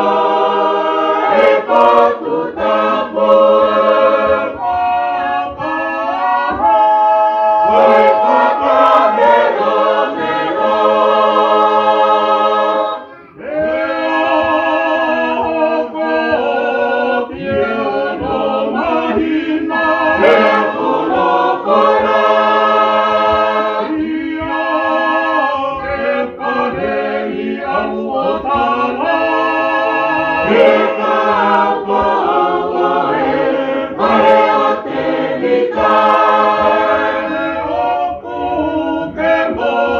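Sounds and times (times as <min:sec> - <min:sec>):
church choir singing a hymn: 0:00.0 - 0:39.9.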